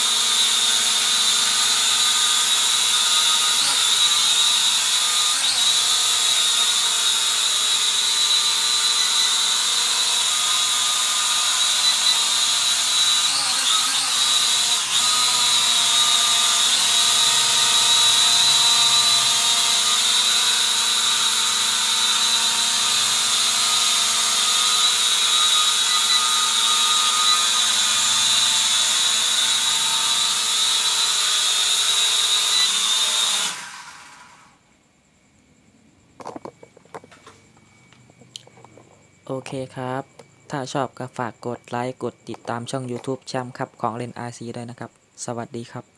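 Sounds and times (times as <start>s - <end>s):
toy drone propellers whining: 0.0s - 34.6s, 36.2s - 44.3s.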